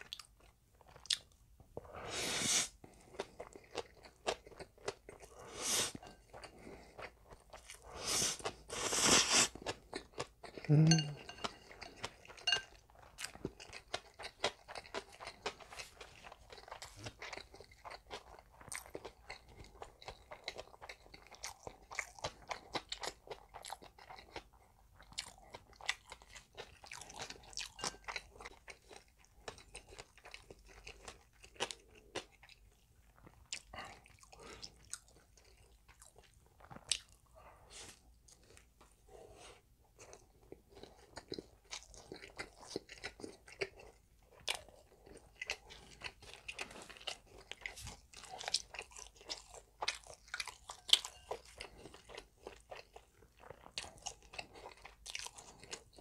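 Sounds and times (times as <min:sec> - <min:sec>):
chewing food: 0:00.0 - 0:02.0, 0:02.7 - 0:56.0.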